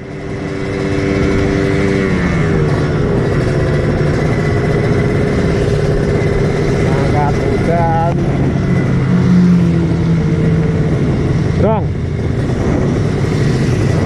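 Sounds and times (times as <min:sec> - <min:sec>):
two-stroke motorcycle engine running: 0:00.0 - 0:14.0.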